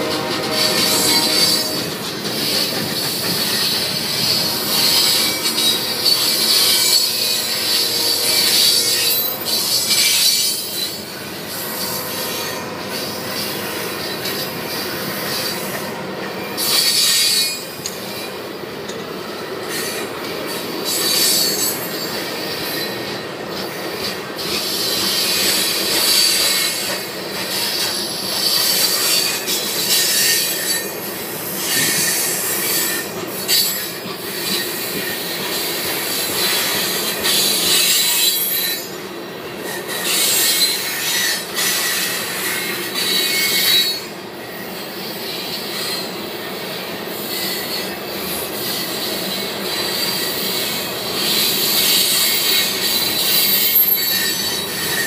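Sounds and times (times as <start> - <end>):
train rumble: 0.0 - 55.0
train wheels squealing: 0.0 - 55.0.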